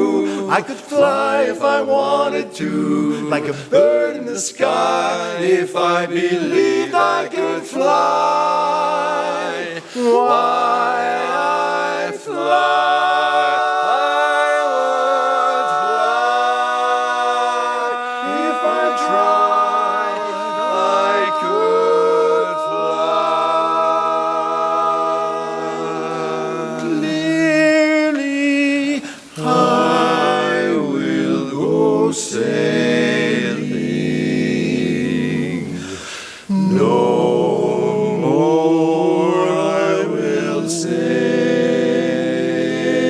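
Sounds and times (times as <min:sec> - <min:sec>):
barbershop quartet singing a cappella: 0:00.0 - 0:43.0.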